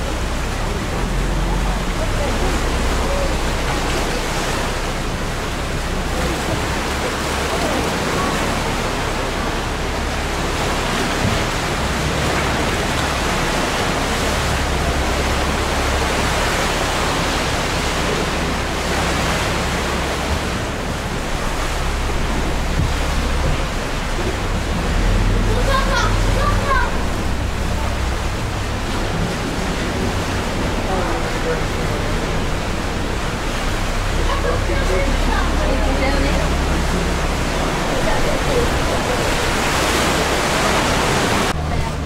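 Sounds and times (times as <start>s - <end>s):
low boat engine hum: 0.0s - 42.0s
sea water and waves rushing: 0.0s - 42.0s.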